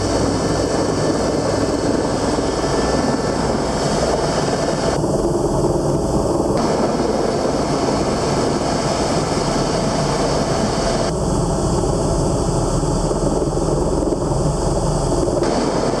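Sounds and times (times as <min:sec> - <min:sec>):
small aircraft engine and cabin noise: 0:00.0 - 0:16.0.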